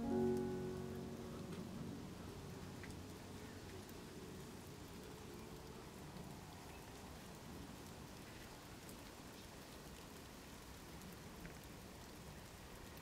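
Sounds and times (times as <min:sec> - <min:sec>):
rain on pond water: 0:00.0 - 0:13.0.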